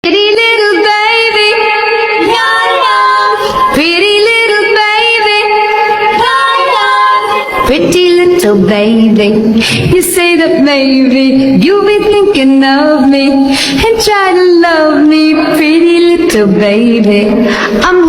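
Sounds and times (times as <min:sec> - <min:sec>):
high voice singing: 0:00.0 - 0:18.0.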